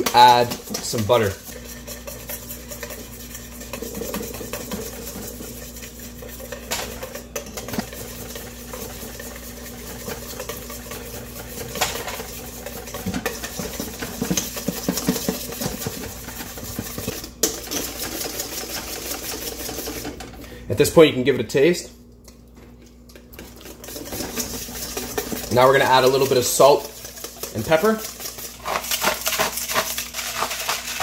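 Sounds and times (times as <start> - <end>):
whisk clicking against metal bowl: 0.0 - 20.2, 23.1 - 31.0.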